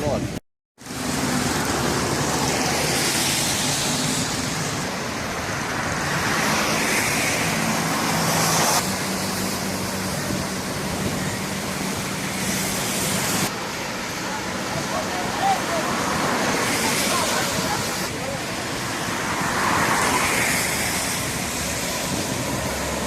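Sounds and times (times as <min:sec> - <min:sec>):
loud traffic noise: 0:00.0 - 0:23.0
vehicle engine hum: 0:00.0 - 0:23.0.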